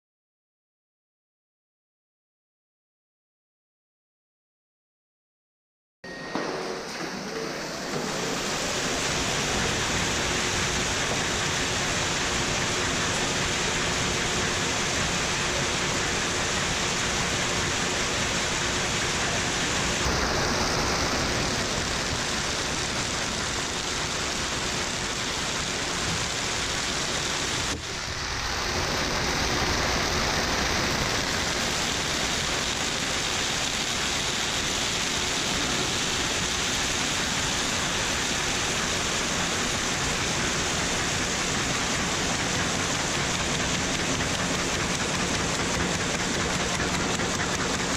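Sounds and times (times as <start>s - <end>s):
bag-making machine running: 6.1s - 47.9s.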